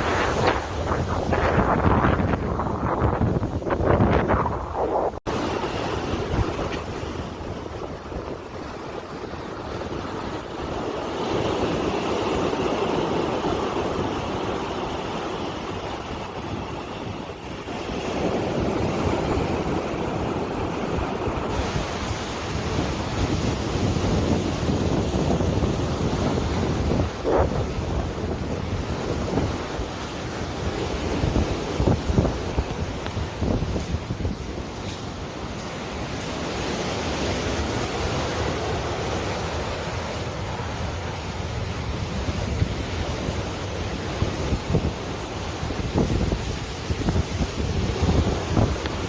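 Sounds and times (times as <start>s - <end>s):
rushing water: 0.0s - 49.0s
wind buffeting microphone: 0.0s - 49.0s.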